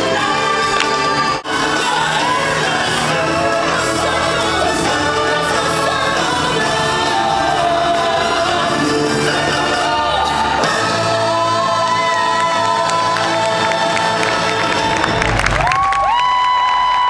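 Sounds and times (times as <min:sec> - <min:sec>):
choir singing with accompaniment: 0:00.0 - 0:15.7.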